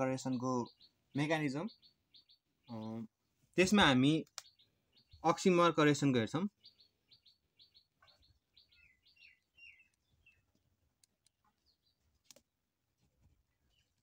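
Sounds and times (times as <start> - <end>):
faint bird chirps: 0.0 - 12.4.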